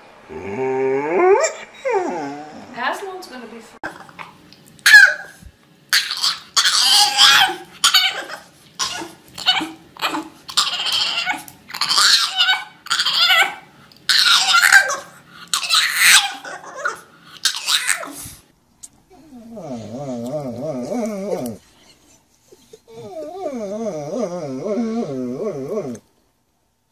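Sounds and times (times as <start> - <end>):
dog whining: 0.3 - 2.9, 4.8 - 18.3, 19.1 - 21.6, 22.5 - 26.0.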